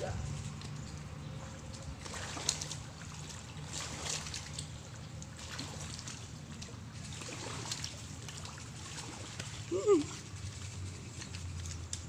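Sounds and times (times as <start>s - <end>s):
faint splashes: 0.0s - 12.0s
low steady rumble: 0.0s - 12.0s
water trickling and lapping: 0.0s - 12.0s.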